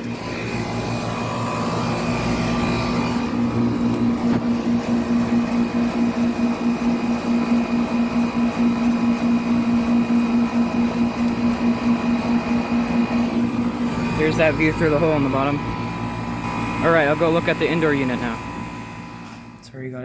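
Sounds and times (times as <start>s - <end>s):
condenser fan whoosh: 0.0s - 19.8s
compressor pulsing hum: 0.0s - 20.0s.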